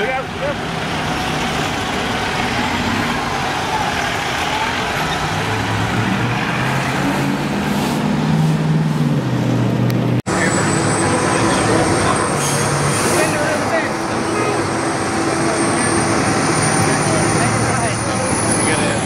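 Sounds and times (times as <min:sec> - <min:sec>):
road noise: 0:00.0 - 0:19.0
vehicle sound: 0:00.0 - 0:19.0
truck engine accelerating: 0:00.4 - 0:19.0.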